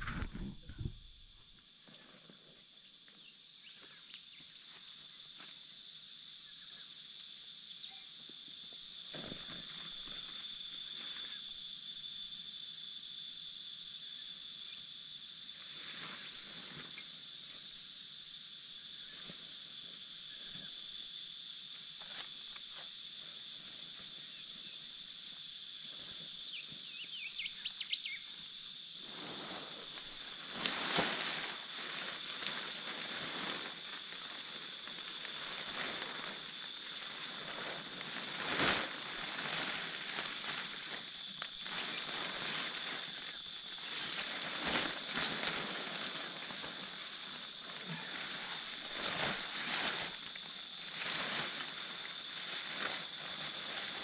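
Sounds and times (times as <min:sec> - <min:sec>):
rustle: 0:00.0 - 0:12.5, 0:13.8 - 0:54.0
insect chorus drone: 0:00.0 - 0:54.0.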